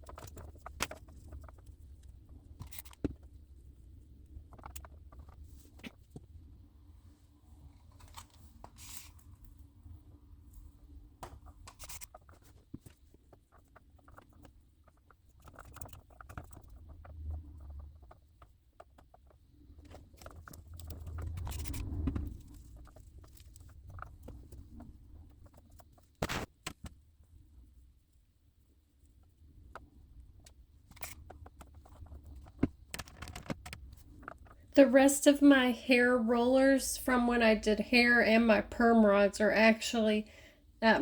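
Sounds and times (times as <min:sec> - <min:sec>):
soft scratching and rustling: 0:00.0 - 0:09.7, 0:10.4 - 0:34.7.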